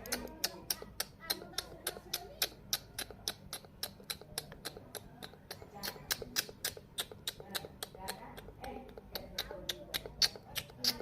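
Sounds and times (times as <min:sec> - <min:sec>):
sharp clicks: 0:00.0 - 0:11.0.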